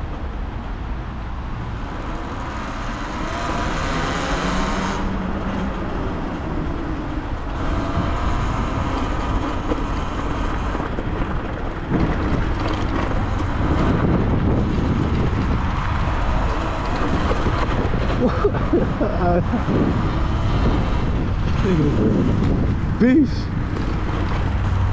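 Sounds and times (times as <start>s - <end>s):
wind and tyre rumble: 0.0s - 24.9s.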